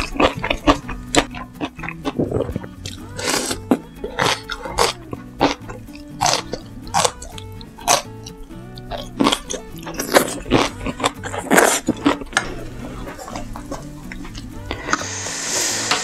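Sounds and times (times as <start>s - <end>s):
crunchy bites and chewing: 0.0s - 15.1s
soft background music: 0.0s - 16.0s.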